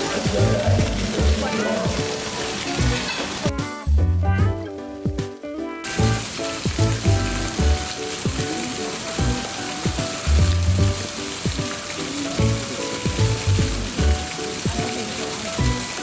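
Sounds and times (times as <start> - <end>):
hiss of water: 0.0 - 3.5, 5.9 - 16.0
background music with steady beat: 0.0 - 16.0.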